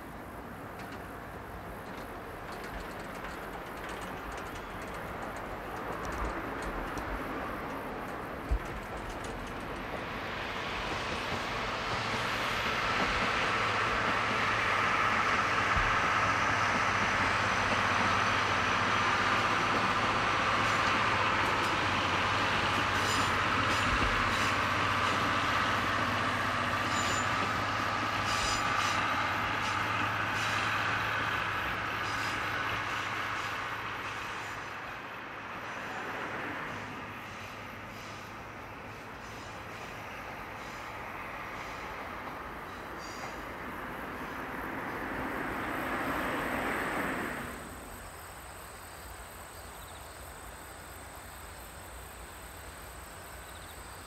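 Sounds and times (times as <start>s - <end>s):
diesel locomotive engine hum: 0.0s - 54.0s
train wheels rumbling: 0.0s - 54.0s.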